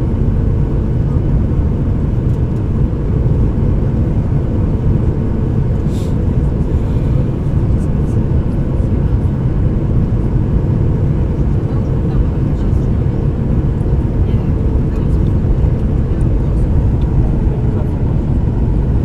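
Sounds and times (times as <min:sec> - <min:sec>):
jet airliner rumble: 0:00.0 - 0:19.0.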